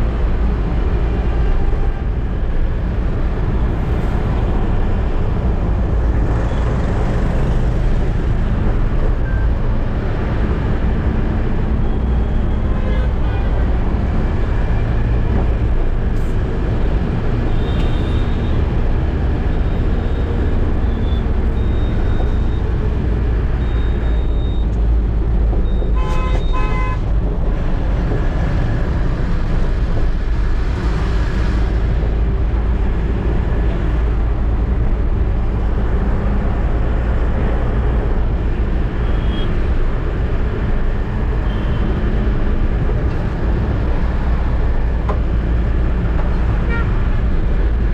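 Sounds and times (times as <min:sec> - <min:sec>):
truck engine and road rumble: 0:00.0 - 0:47.9.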